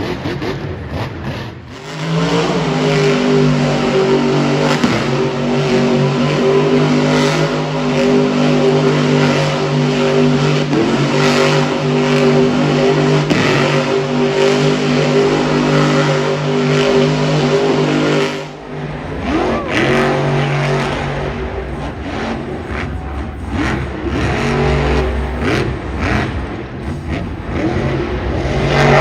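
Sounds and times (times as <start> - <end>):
engine revs rising and falling: 0.0 - 29.0
truck engine revving hard: 0.0 - 29.0.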